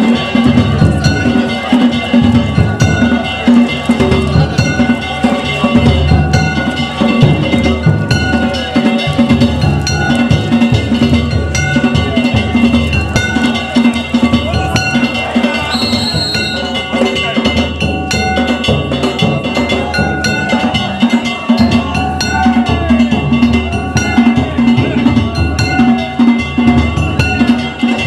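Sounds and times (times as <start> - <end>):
small metal gongs ringing: 0.0 - 28.0
taiko drum beating: 0.0 - 28.0.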